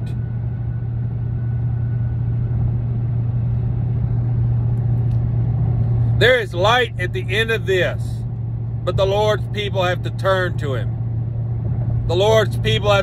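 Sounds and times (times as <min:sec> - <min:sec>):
low hum: 0:00.0 - 0:13.0
low rumble: 0:00.0 - 0:13.0.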